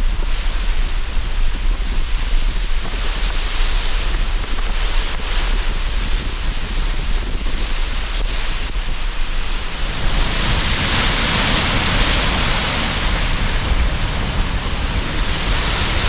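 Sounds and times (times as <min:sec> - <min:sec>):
sea surf washing in: 0:00.0 - 0:16.0
wind rumble on microphone: 0:00.0 - 0:16.0.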